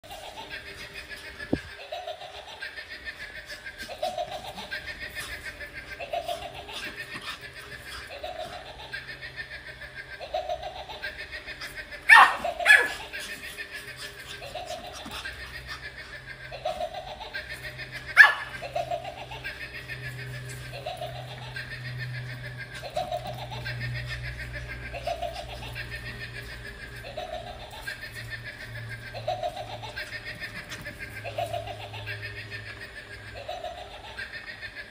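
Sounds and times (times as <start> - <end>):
looping electronic laugh: 0.0 - 34.9
toy rolling on hard floor: 0.0 - 34.9.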